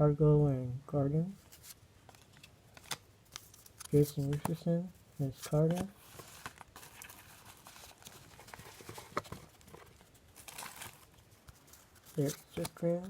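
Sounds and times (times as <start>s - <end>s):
cards clicking and rustling: 1.5s - 4.7s, 5.3s - 13.0s.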